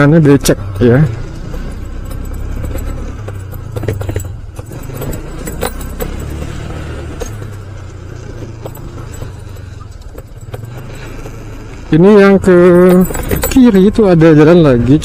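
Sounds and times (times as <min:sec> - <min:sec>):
clinks and rattles: 0:00.0 - 0:15.0
motorcycle engine humming: 0:00.0 - 0:15.0.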